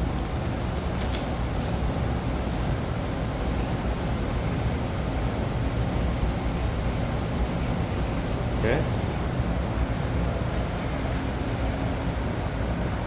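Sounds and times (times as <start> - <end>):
ventilation blower airflow: 0.0 - 13.0.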